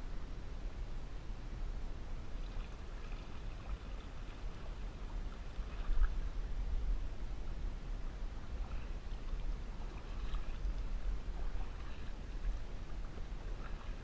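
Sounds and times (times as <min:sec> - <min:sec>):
steady low rumble: 0:00.0 - 0:14.0
water splashing around kayak: 0:02.0 - 0:14.0.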